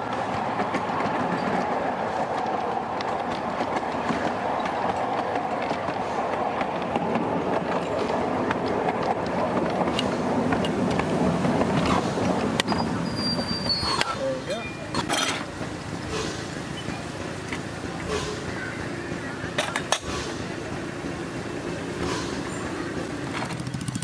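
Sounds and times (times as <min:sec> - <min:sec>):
miniature train running: 0:00.0 - 0:24.0
wheels clicking on rails: 0:00.0 - 0:24.0.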